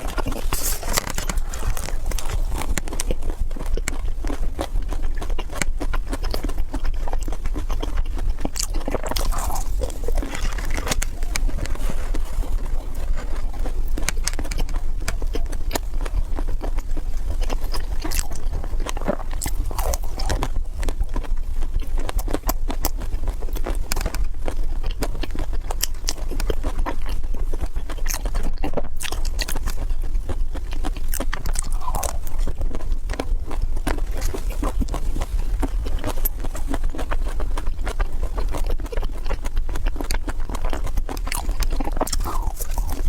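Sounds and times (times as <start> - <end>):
chewing crunchy food: 0.0 - 43.0
steady low hum: 0.0 - 43.0.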